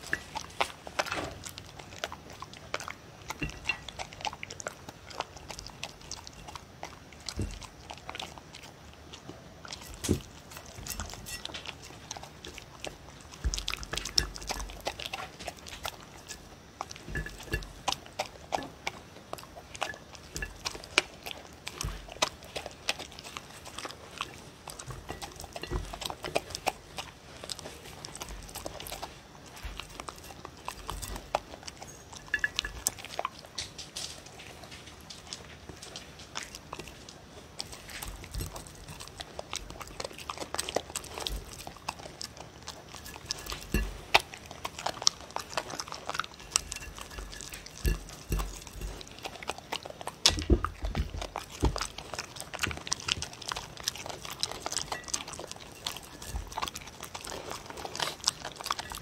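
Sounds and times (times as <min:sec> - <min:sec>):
dog crunching dry kibble: 0:00.0 - 0:59.0.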